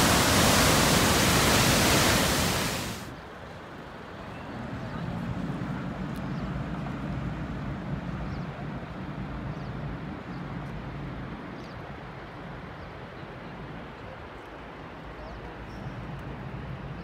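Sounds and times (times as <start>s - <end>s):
steady outdoor noise: 0.0s - 17.0s.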